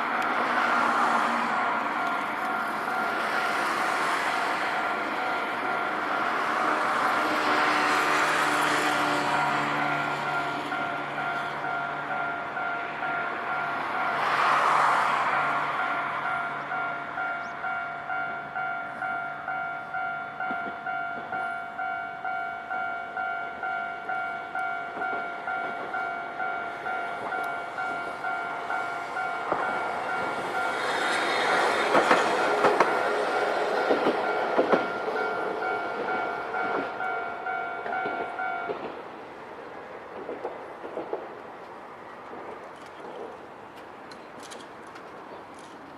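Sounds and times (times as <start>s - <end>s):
tram wheels clacking over rails: 0.0s - 45.9s.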